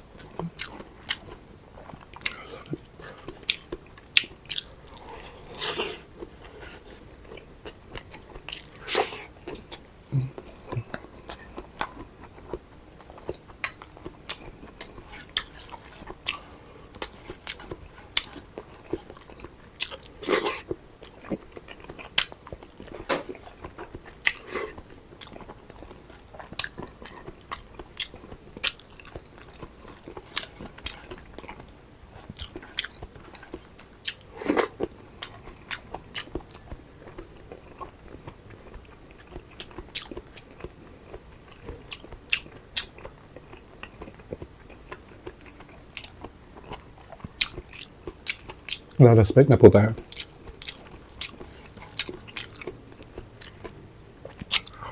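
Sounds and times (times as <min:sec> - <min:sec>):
person chewing food: 0:00.1 - 0:49.0, 0:49.8 - 0:54.9.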